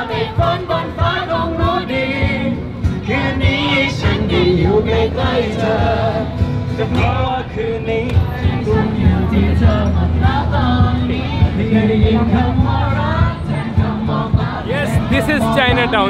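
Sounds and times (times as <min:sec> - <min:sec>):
instrumental backing music: 0:00.0 - 0:16.0
man singing through microphone: 0:00.0 - 0:16.0.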